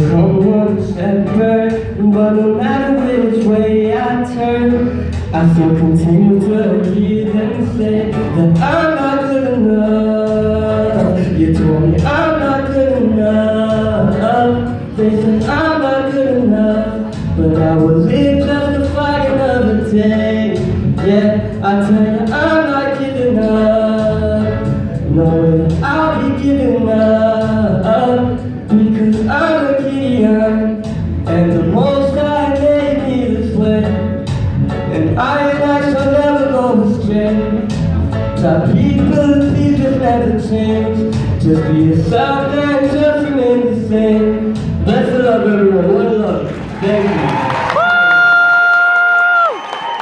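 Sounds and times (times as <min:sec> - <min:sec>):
person singing into microphone: 0:00.0 - 0:47.0
musical backing: 0:00.0 - 0:50.0.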